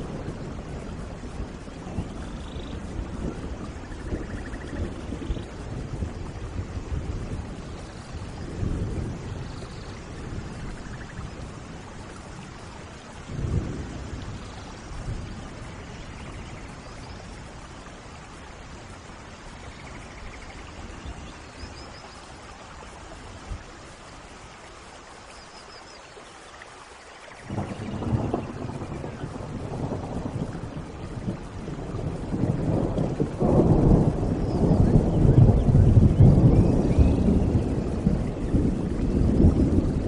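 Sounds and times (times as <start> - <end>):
thunder rumbling: 0.0 - 24.5, 27.4 - 40.0
steady rain falling: 0.0 - 40.0.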